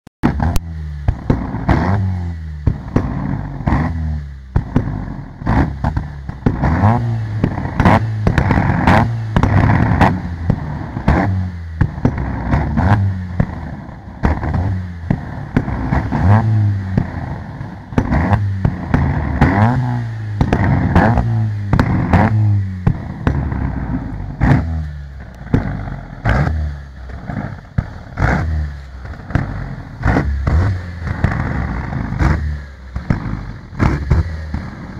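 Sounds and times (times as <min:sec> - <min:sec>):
car engine revving: 0:00.2 - 0:34.9
exhaust bangs and pops: 0:00.2 - 0:34.9.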